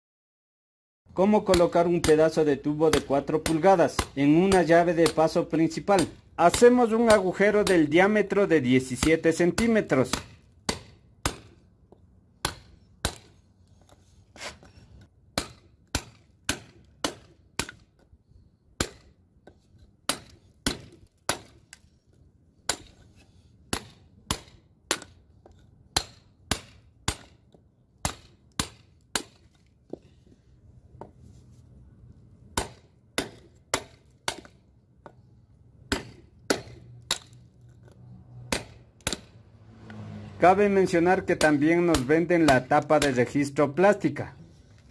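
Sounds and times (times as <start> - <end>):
hammer striking chisel on concrete: 1.2 - 18.1, 18.8 - 21.9, 22.7 - 30.3, 32.5 - 44.8.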